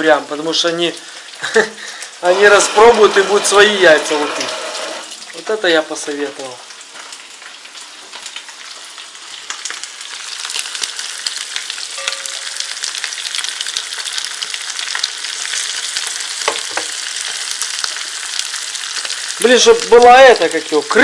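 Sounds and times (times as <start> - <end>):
food sizzling and crackling in a pan: 0.8 - 21.0.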